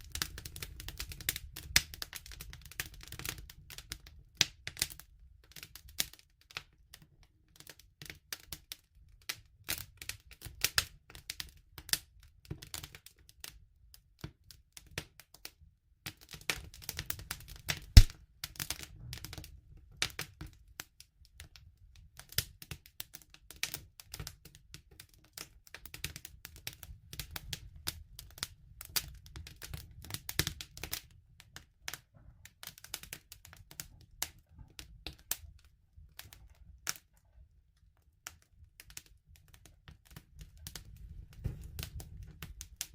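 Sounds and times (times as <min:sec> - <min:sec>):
wood fire crackling: 0:00.0 - 0:13.6, 0:14.2 - 0:42.9.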